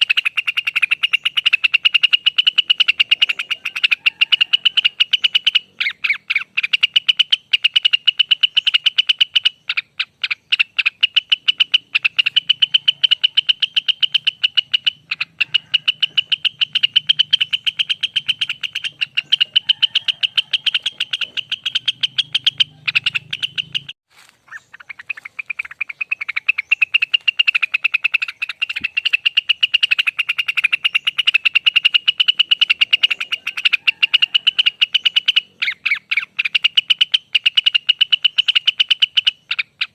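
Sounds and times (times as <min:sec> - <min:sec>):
bird singing rapid trill: 0:00.0 - 0:39.9.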